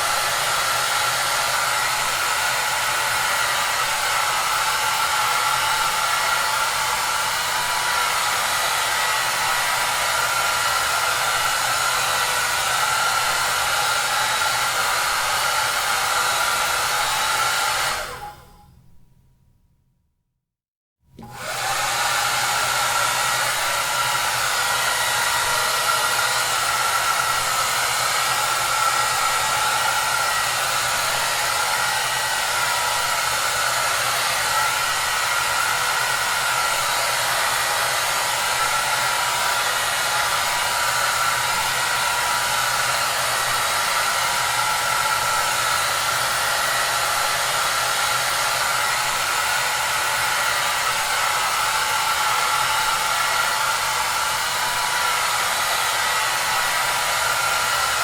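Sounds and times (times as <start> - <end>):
hair dryer blowing: 0.0 - 18.6, 21.2 - 58.0.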